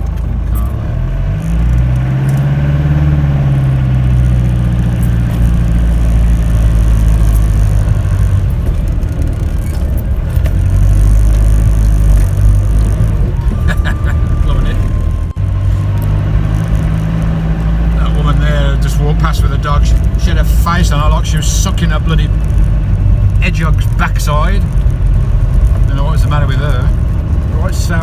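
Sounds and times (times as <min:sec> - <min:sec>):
motorhome engine driving: 0:00.0 - 0:28.0.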